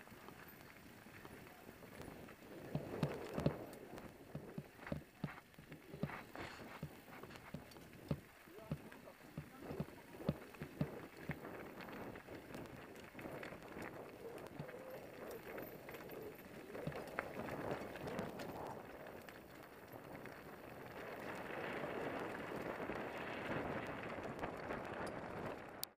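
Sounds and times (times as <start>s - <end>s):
bike clicks and knocks over bumps: 0.0s - 25.9s
bike tyres and wind rushing: 0.0s - 25.9s.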